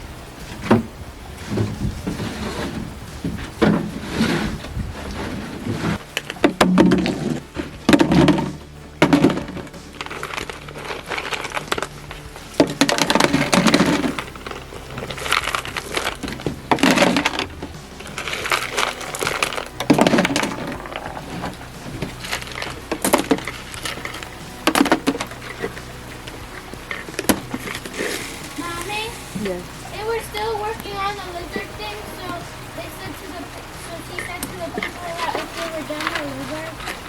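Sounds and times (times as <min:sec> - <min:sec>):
garden items knocking and clattering: 0:00.0 - 0:37.0.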